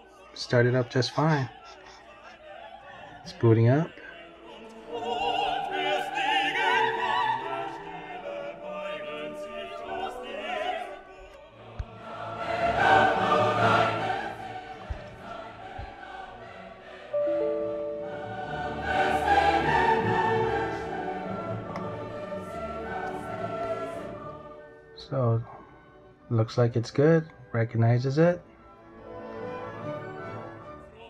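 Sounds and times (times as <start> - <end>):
choir singing: 0.0 - 26.4, 28.8 - 31.0.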